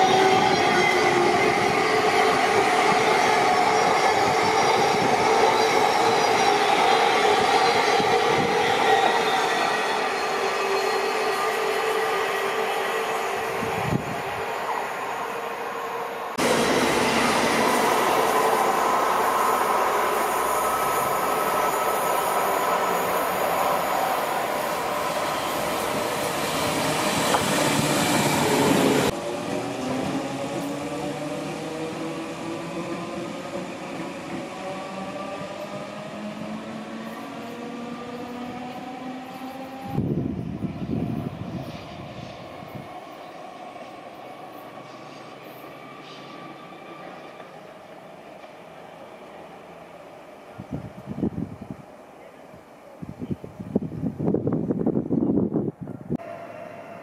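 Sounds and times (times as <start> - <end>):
train passing with rail noise: 0.0 - 57.0.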